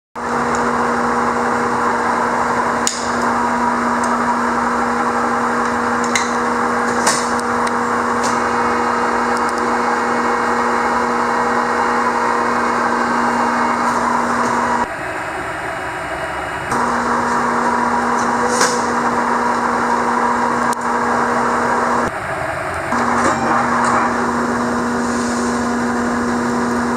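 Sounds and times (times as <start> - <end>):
drill press motor humming: 0.2 - 26.9.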